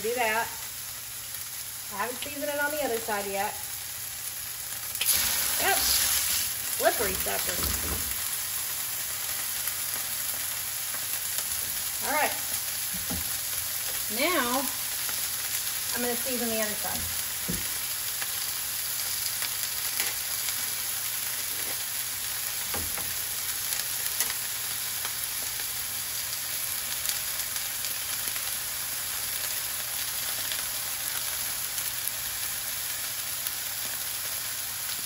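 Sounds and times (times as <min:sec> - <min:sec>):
chicken sizzling in oil: 0:00.0 - 0:35.0.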